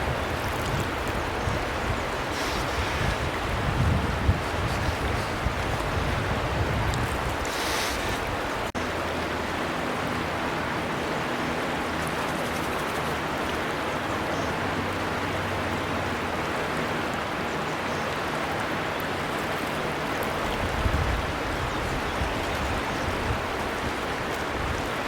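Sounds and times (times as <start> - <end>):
river flowing: 0.0 - 25.0.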